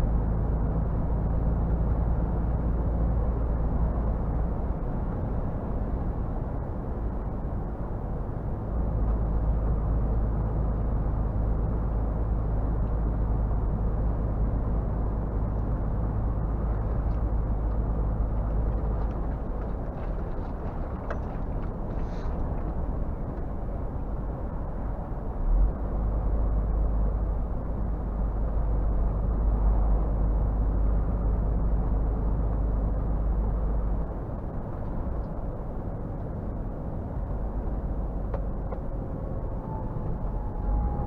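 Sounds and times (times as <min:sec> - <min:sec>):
road noise: 0:00.0 - 0:41.0
truck diesel engine rumbling: 0:00.0 - 0:41.0.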